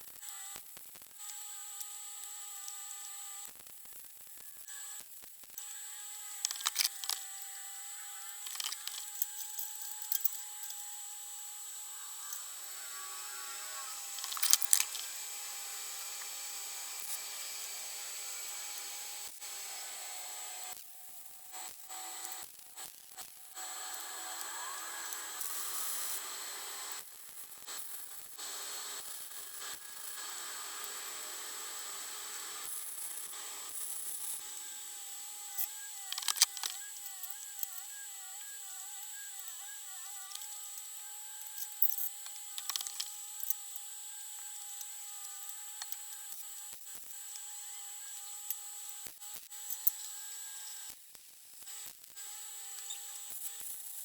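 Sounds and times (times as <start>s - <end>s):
power tool whining on metal: 5.6s - 51.0s, 51.6s - 54.0s.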